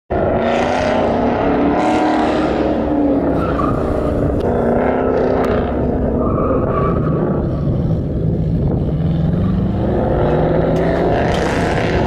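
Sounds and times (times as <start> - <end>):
car engine revving: 0.1 - 12.0
tires squealing: 0.1 - 12.0.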